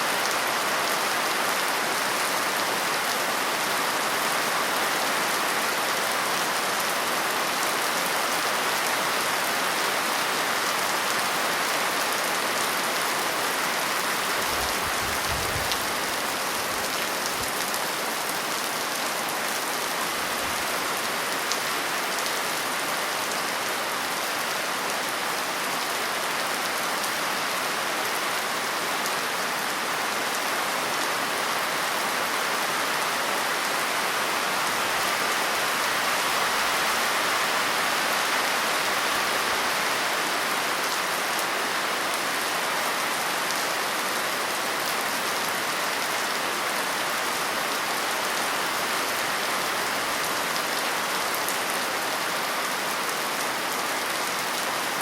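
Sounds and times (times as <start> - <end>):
dense rain falling: 0.0 - 55.0.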